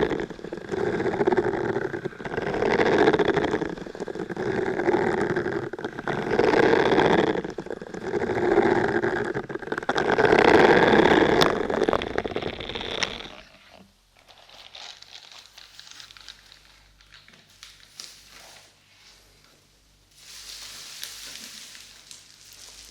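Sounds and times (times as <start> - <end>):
close rubbing and crinkling: 0.0 - 19.4, 20.1 - 22.9.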